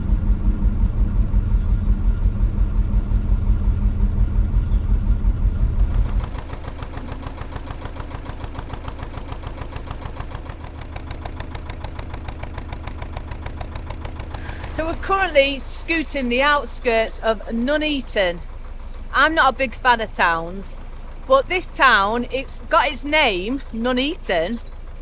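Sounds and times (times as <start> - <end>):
diesel boat engine chugging: 0.0 - 25.0.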